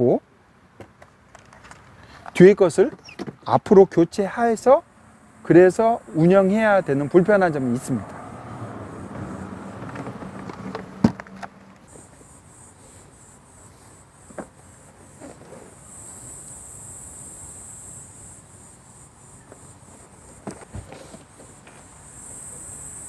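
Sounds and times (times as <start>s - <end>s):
insects singing: 1.5s - 23.0s.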